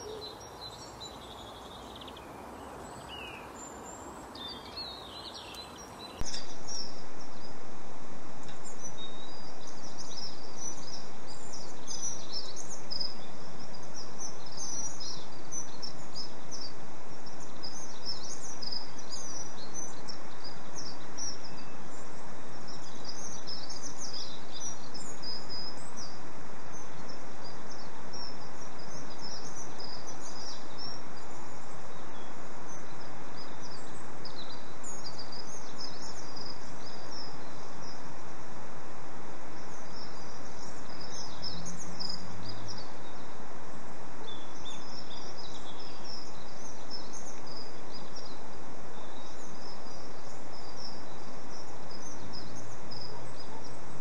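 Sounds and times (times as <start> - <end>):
small songbirds chirping: 0.0 - 54.0
steady background hiss: 0.0 - 54.0.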